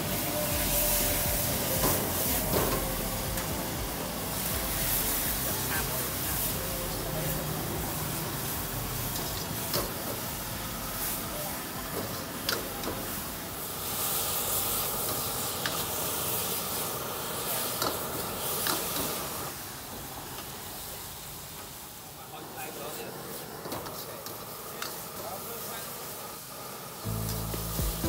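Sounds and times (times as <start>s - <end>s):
food sizzling in a wok: 0.0s - 28.0s.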